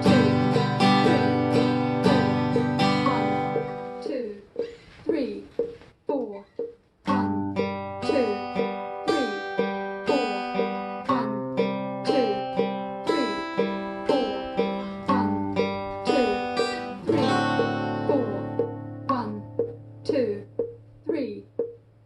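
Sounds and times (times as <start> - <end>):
acoustic guitar chords: 0.0 - 5.8, 6.6 - 22.0.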